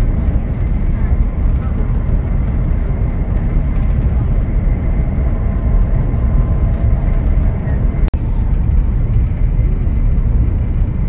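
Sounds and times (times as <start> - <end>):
train rumbling inside cabin: 0.0 - 11.0.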